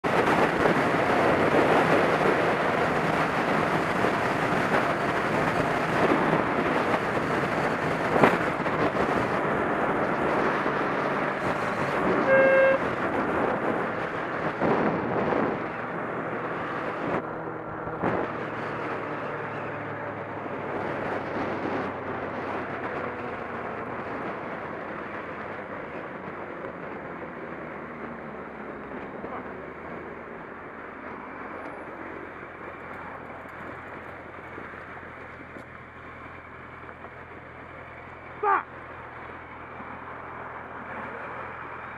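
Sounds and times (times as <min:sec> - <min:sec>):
wind rush: 0:00.0 - 0:37.8.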